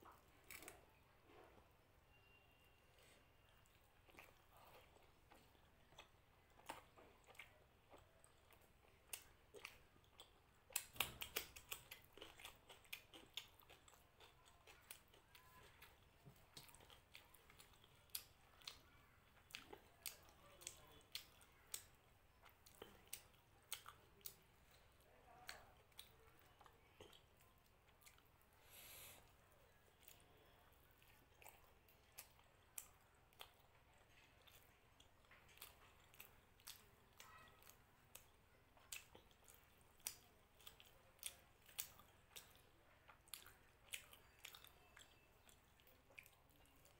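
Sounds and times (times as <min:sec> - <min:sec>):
person chewing wet food: 0:00.0 - 0:01.6, 0:02.9 - 0:46.9.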